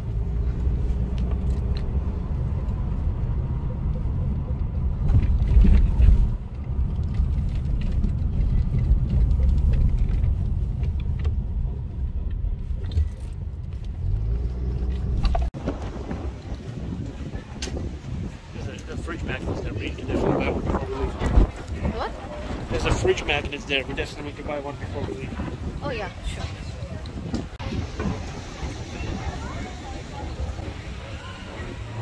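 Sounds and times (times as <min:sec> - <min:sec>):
car road rumble inside cabin: 0:00.0 - 0:32.0.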